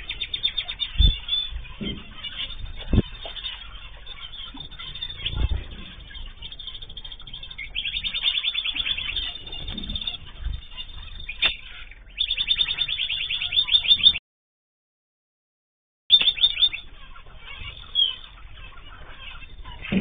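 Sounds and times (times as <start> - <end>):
bird trills: 0.0 - 14.2, 16.1 - 20.0
pet birds chirping: 0.0 - 14.2, 16.1 - 20.0.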